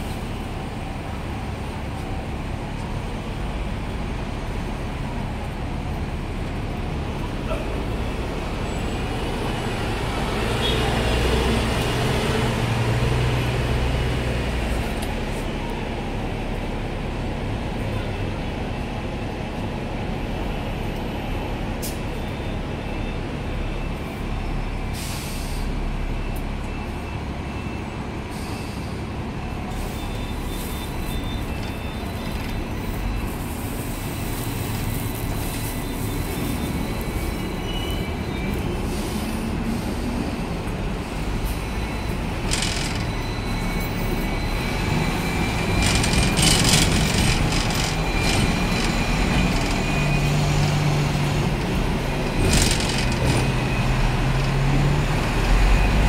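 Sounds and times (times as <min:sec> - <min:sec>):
tram running noise: 0:00.0 - 0:25.0, 0:25.6 - 0:56.0
bus engine rumbling: 0:00.0 - 0:56.0
street traffic: 0:00.0 - 0:56.0.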